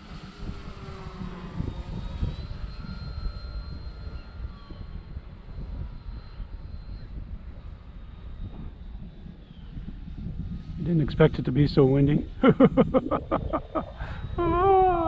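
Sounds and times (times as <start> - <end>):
model plane motor whine: 0.0 - 15.0
wind rumble on microphone: 0.0 - 15.0.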